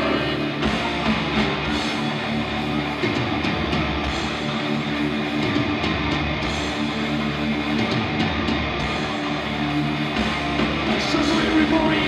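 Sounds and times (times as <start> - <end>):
distorted electric guitars: 0.0 - 12.0
live metal band: 0.0 - 12.0.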